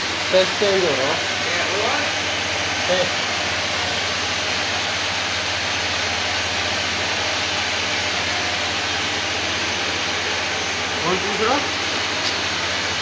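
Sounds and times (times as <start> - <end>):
pump motor hum: 0.0 - 13.0.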